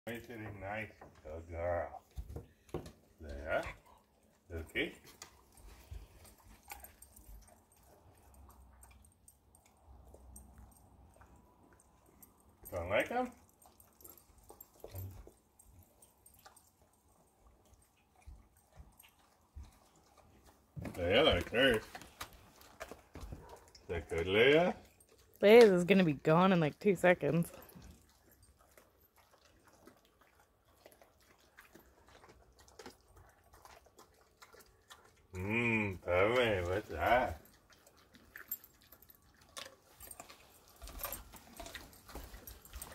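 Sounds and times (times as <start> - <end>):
dog chewing: 0.1 - 42.9.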